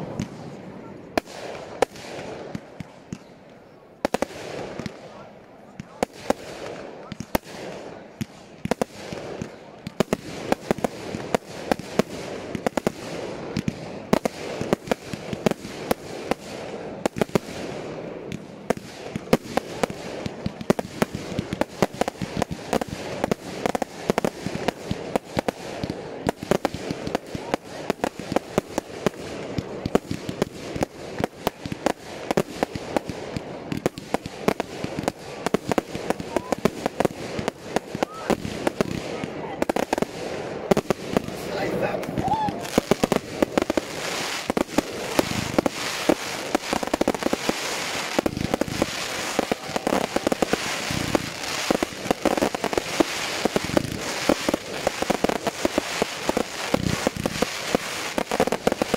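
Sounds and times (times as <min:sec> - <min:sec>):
fireworks banging and crackling: 0:00.0 - 0:58.9.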